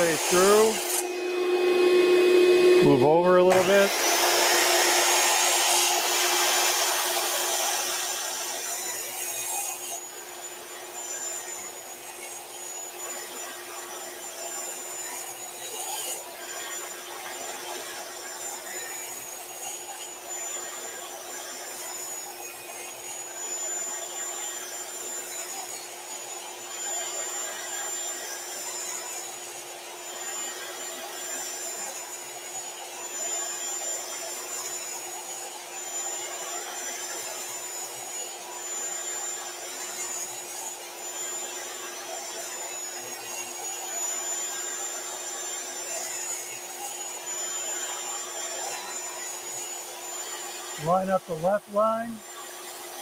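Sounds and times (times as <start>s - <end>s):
miter saw motor whine: 0.0s - 53.0s.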